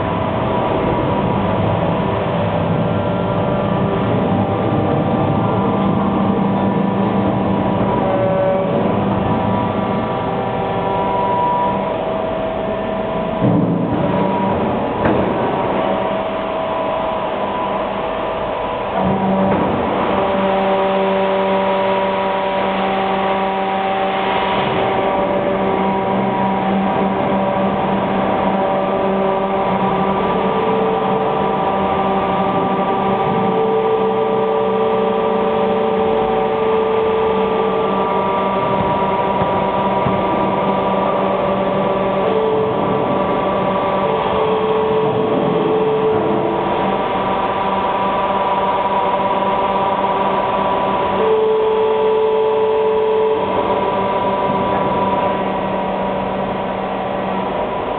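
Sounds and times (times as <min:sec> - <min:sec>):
cutting machine humming: 0:00.0 - 0:57.9.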